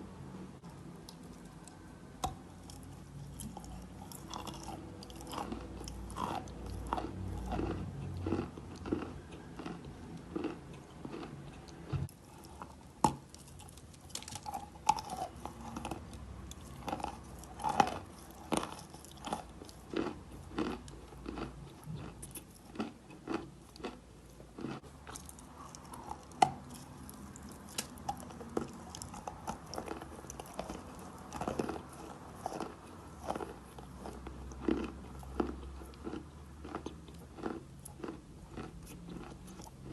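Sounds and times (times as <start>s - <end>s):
chalk being chewed: 1.0s - 24.0s, 24.6s - 39.9s.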